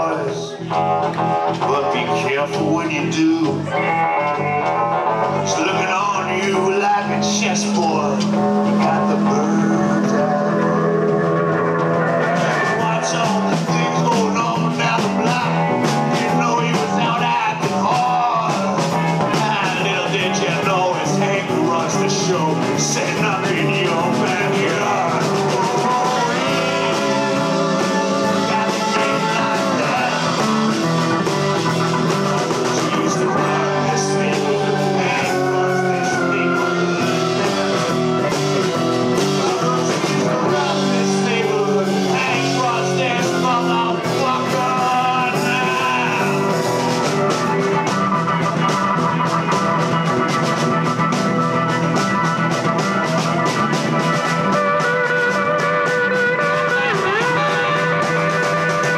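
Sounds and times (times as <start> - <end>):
rock band playing: 0.0 - 58.9.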